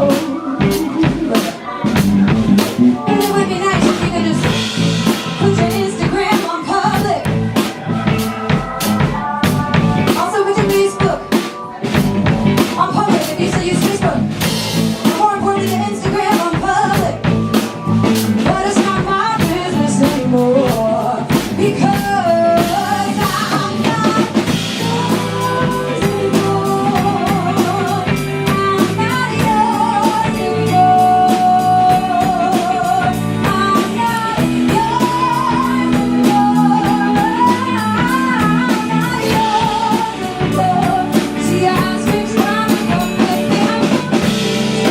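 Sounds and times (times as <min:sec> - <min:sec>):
drum kit beat: 0:00.0 - 0:44.9
guitar: 0:00.0 - 0:44.9
woman singing: 0:00.0 - 0:44.9.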